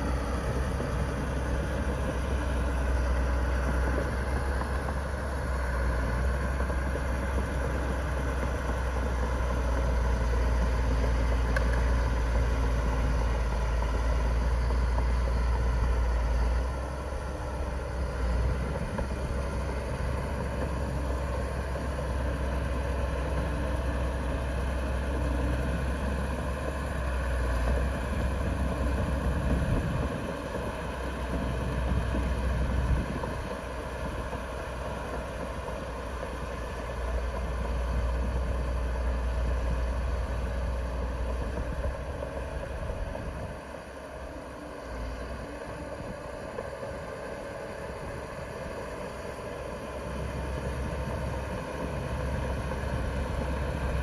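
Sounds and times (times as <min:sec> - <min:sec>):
heavy machinery diesel engines rumbling: 0:00.0 - 0:54.0.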